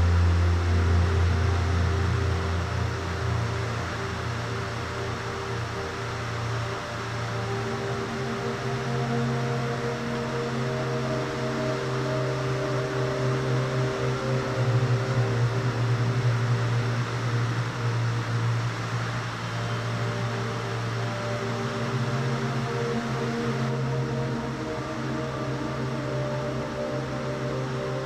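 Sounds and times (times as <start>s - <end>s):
ambient music with droning chords: 0.0s - 28.0s
steady hiss: 0.0s - 28.0s.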